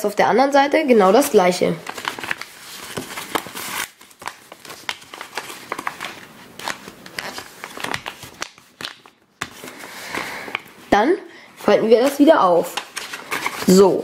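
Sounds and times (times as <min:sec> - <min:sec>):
paper crinkling and rustling: 0:01.8 - 0:10.8, 0:11.6 - 0:14.0.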